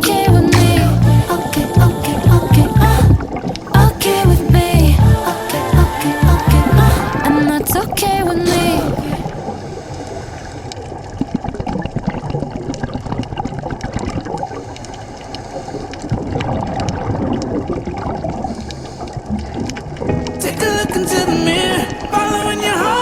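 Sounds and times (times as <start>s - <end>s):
water bubbling underwater: 0.0s - 20.4s.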